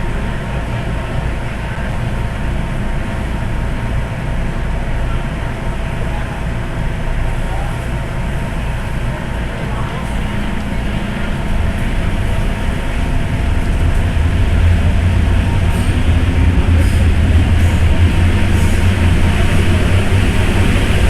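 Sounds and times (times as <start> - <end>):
metro train rumble: 0.0 - 21.0.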